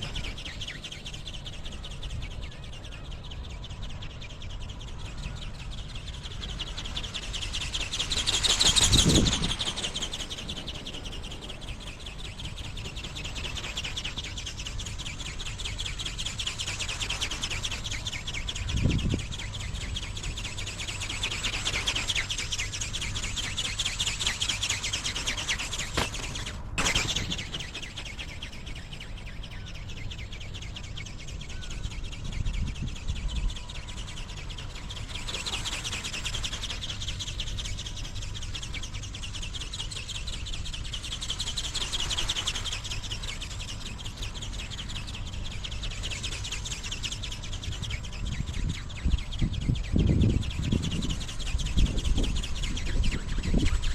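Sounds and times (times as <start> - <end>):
wind buffeting microphone: 0.0 - 24.6, 25.4 - 35.6, 42.9 - 53.9.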